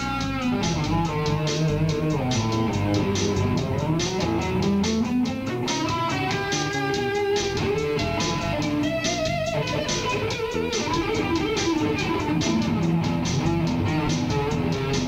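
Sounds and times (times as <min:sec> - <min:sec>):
bass guitar line: 0:00.0 - 0:15.0
guitar playing: 0:00.0 - 0:15.0.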